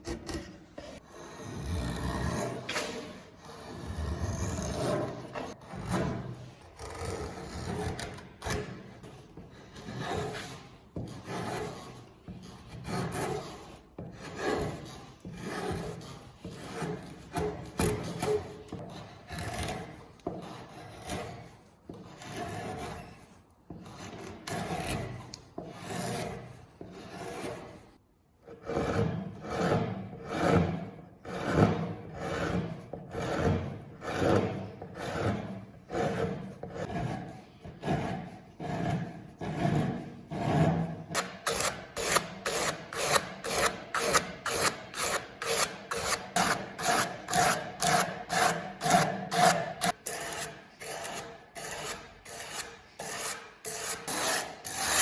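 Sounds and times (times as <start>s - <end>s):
abrasive tool scraping: 0.0s - 28.0s, 28.6s - 55.0s.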